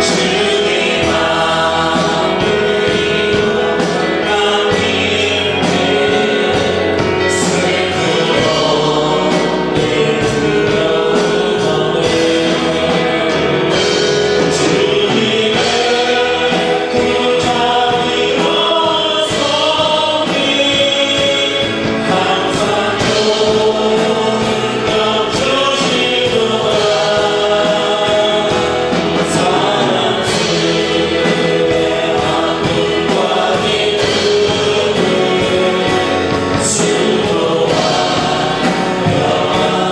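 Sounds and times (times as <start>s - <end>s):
group singing worship song: 0.0s - 39.9s
instrumental accompaniment with beat: 0.0s - 39.9s.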